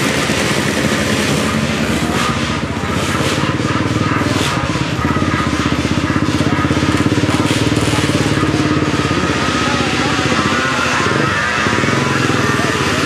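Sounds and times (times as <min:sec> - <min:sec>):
quad engines accelerating: 0:00.0 - 0:13.0.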